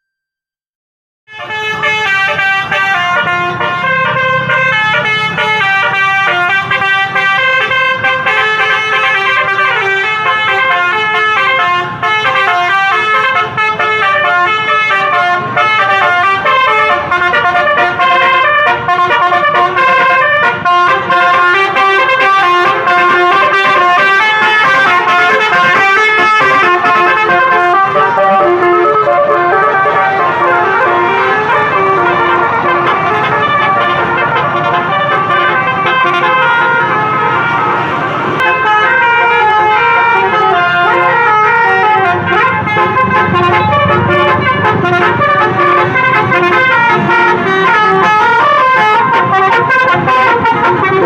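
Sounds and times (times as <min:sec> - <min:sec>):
multi-tone bus horn melody: 0:01.3 - 0:51.0.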